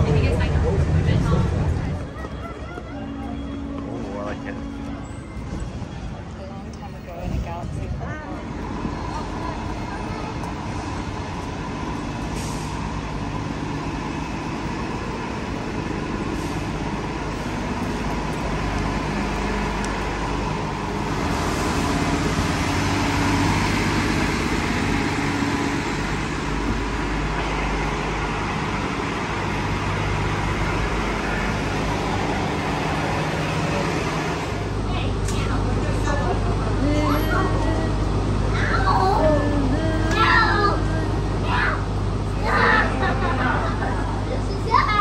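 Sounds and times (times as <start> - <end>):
road noise: 0.0 - 45.0
vehicle engine hum: 0.0 - 45.0.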